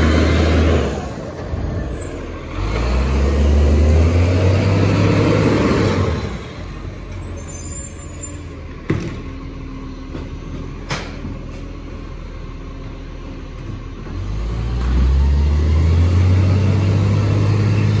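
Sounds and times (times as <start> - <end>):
garbage truck engine rumble: 0.0 - 18.0.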